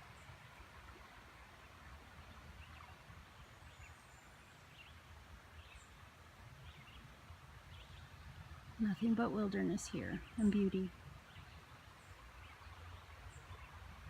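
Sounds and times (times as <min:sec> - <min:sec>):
low woodland rumble: 0:00.0 - 0:14.0.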